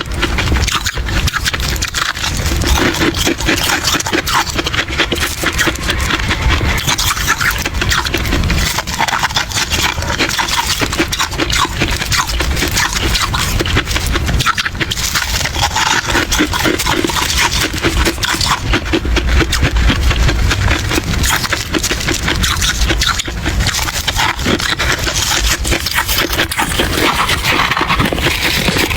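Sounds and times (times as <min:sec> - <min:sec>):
crunching and chewing frost: 0:00.0 - 0:28.9.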